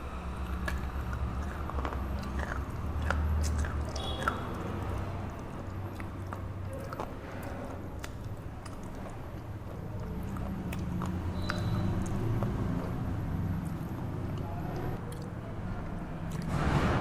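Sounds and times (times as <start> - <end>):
muffled chewing: 0.0 - 16.6.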